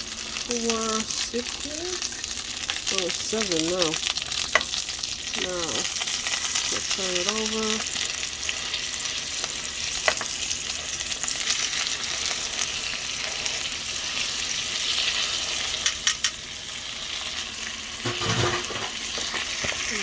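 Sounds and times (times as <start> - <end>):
meat sizzling in a hot pan: 0.0 - 20.0.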